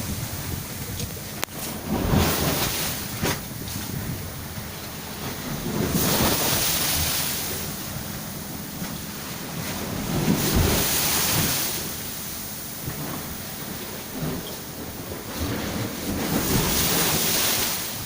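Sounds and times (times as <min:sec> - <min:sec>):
surf: 0:00.0 - 0:18.0
wind rumbling on microphone: 0:00.0 - 0:18.0.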